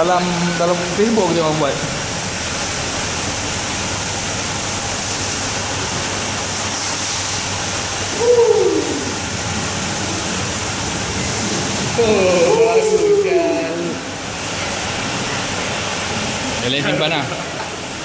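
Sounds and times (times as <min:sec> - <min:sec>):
car wash equipment rushing: 0:00.0 - 0:18.0.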